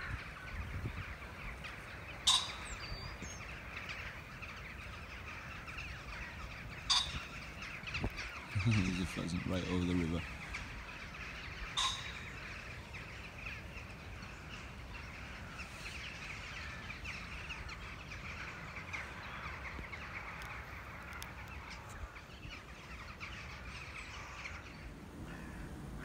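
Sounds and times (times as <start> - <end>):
birds chattering: 0.0 - 26.0.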